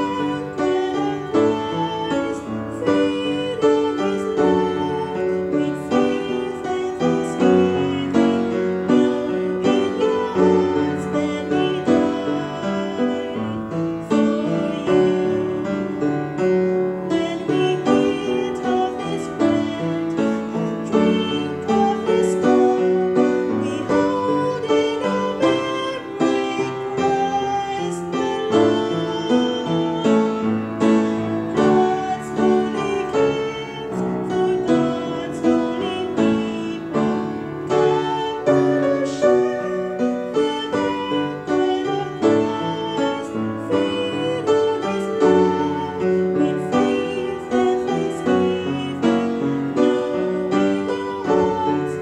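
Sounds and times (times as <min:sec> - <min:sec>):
piano hymn accompaniment: 0:00.0 - 0:52.0.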